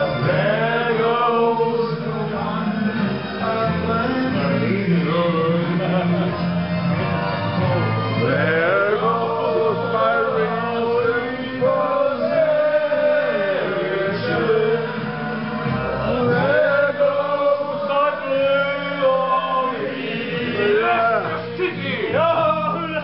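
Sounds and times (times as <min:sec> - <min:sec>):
man singing long notes: 0:00.0 - 0:06.6, 0:08.2 - 0:23.0.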